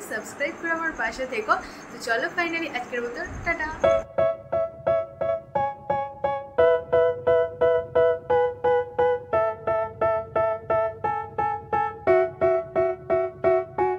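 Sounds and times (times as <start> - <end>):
music of short repeated chords: 2.3 - 13.9.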